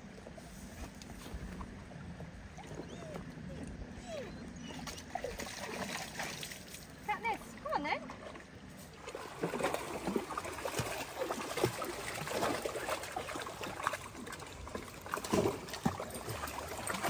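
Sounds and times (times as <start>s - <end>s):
dogs splashing through water: 1.3s - 17.0s.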